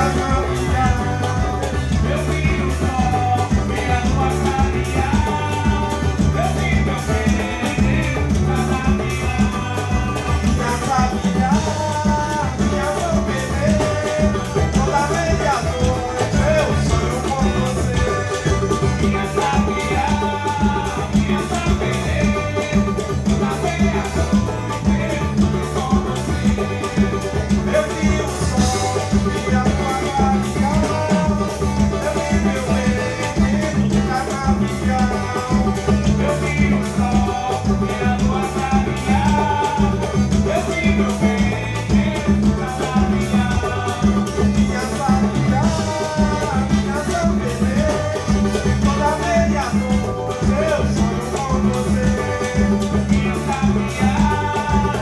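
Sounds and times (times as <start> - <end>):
upbeat latin-style music: 0.0 - 55.0.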